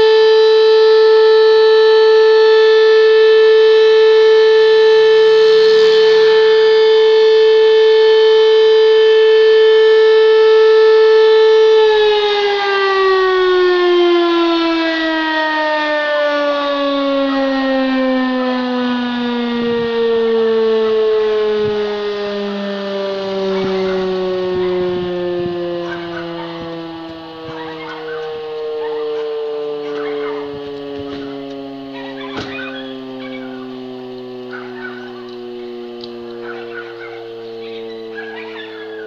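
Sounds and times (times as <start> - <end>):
siren winding down: 0.0 - 39.0.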